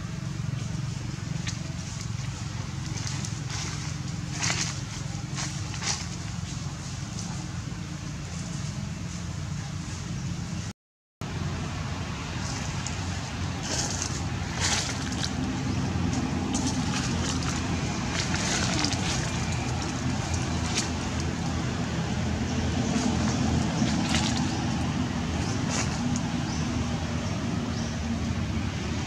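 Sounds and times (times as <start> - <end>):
engine humming: 0.0 - 29.0.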